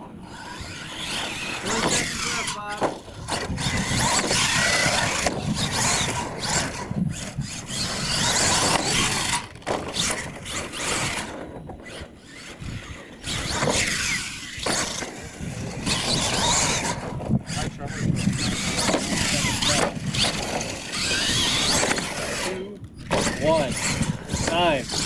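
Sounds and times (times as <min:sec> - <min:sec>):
electric motor and gears whining: 0:00.0 - 0:25.0
tyres scrabbling on dirt: 0:00.3 - 0:25.0.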